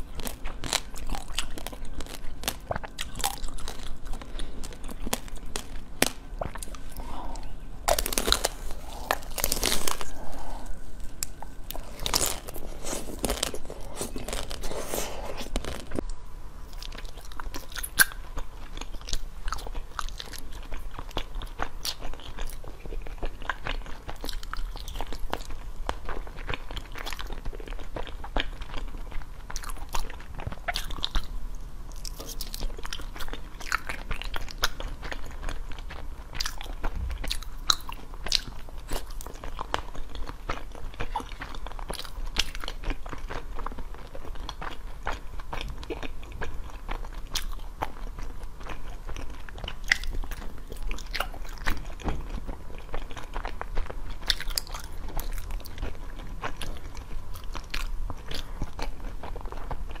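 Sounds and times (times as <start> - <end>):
crunchy biting and chewing: 0.0 - 16.0, 16.7 - 60.0.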